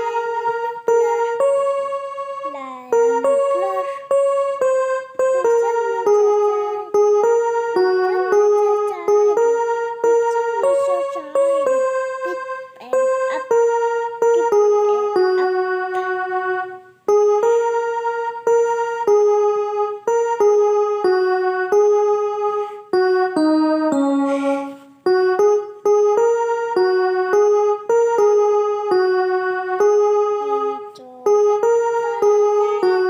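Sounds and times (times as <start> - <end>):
electronic keyboard melody: 0.0 - 33.0.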